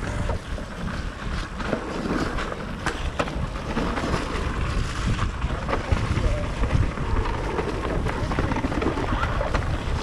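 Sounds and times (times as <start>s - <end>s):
bike knocking and rattling: 0.0s - 10.0s
bike tyres on dirt: 0.0s - 10.0s
wind rumbling on microphone: 0.0s - 10.0s.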